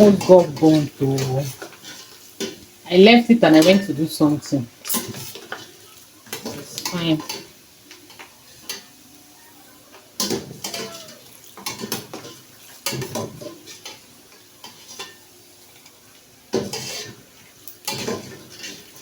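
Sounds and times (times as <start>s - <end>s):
liver frying in hot oil: 0.0s - 19.0s.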